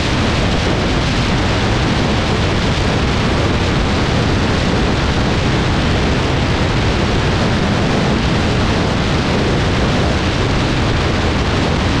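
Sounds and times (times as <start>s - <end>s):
tyre and road noise: 0.0s - 12.0s
wind buffeting microphone: 0.0s - 12.0s.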